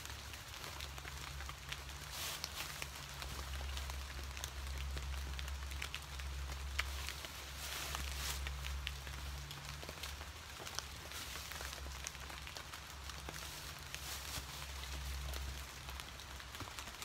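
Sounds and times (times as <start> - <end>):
rain falling: 0.0 - 17.0
raindrops ticking: 0.0 - 17.0.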